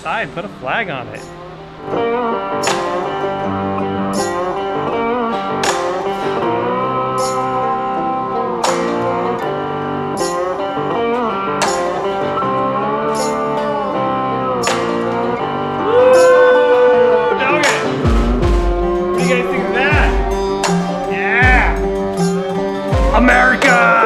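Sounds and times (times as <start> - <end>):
guitar-led blues-country music: 0.0 - 24.0.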